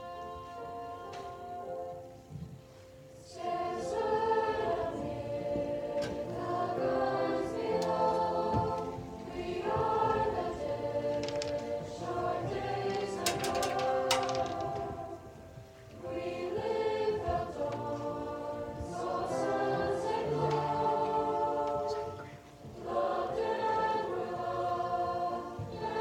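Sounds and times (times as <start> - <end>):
choir singing slow choral piece: 0.0 - 26.0.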